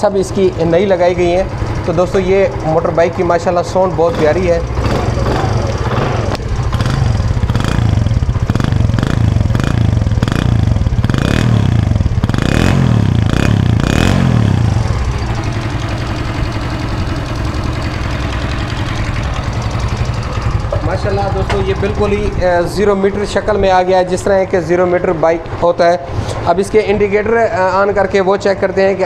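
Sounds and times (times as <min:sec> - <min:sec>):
motorcycle engine revving and idling: 0:00.0 - 0:29.0.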